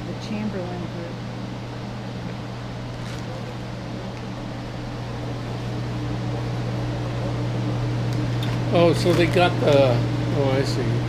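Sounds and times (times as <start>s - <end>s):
low machine hum with airy hiss: 0.0s - 11.0s.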